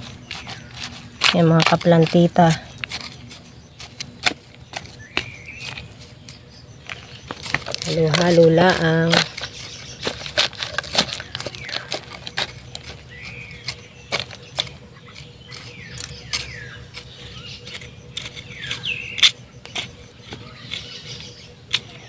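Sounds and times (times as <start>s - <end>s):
soil and eggshells stirred by hand: 0.0s - 22.0s.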